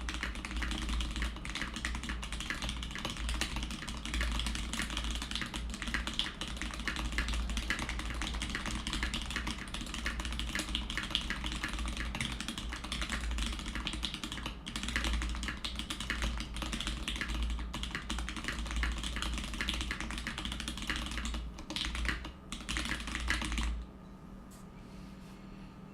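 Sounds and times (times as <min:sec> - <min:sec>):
fast mechanical keyboard typing: 0:00.0 - 0:23.8.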